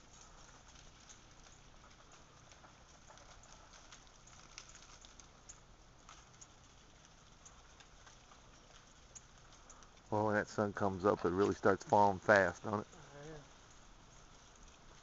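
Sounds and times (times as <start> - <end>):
ice and water drops pattering: 0.0 - 15.0.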